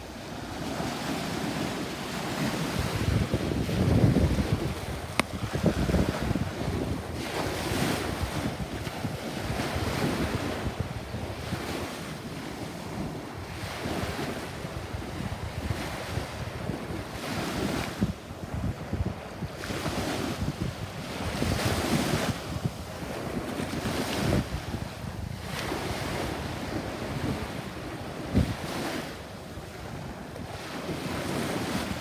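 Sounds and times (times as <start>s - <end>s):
small waves breaking on sand: 0.0s - 32.0s
wind buffeting microphone: 0.0s - 32.0s.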